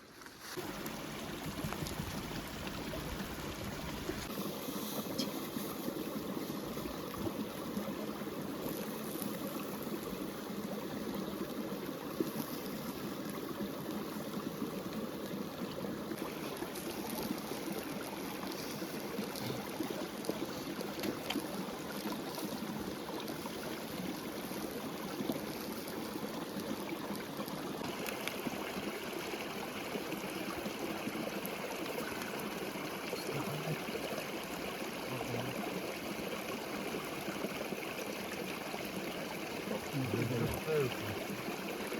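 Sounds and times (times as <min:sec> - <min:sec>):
river water flowing: 0:00.0 - 0:41.9.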